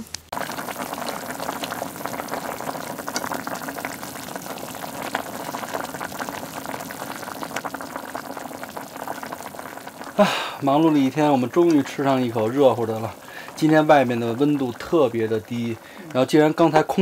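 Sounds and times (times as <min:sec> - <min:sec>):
small pops and spatters: 0:00.0 - 0:16.2
broth bubbling at a boil: 0:00.3 - 0:17.0.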